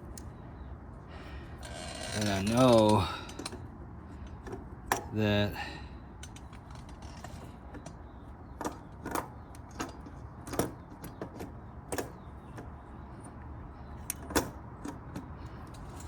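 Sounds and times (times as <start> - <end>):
hands clicking metal and rubber parts: 1.6 - 5.2, 6.2 - 16.0.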